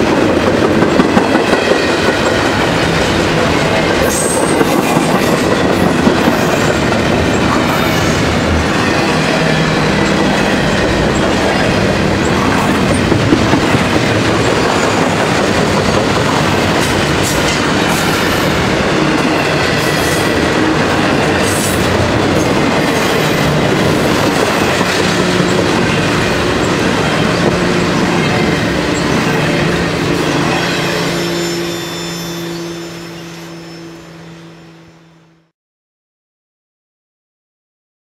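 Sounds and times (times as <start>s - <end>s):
freight train wheels rumbling: 0.0s - 34.3s.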